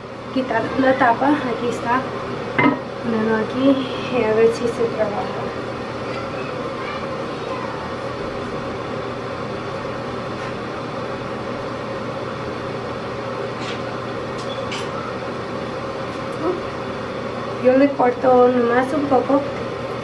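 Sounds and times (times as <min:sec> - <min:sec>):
fan humming: 0:00.0 - 0:20.0.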